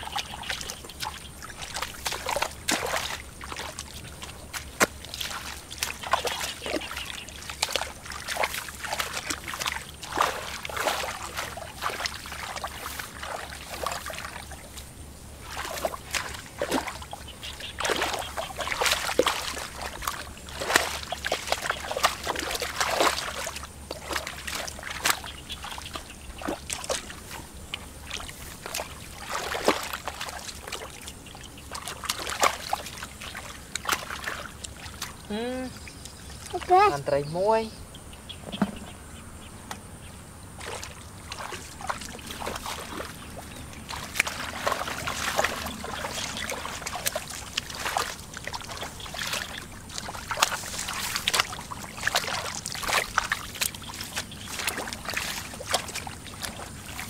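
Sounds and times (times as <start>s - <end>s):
hands splashing in muddy water: 0.0s - 37.0s, 40.6s - 57.0s.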